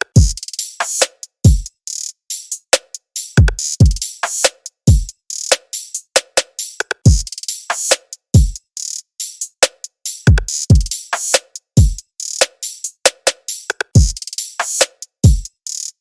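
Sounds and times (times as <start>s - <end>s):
drum machine beat: 0.0s - 16.0s.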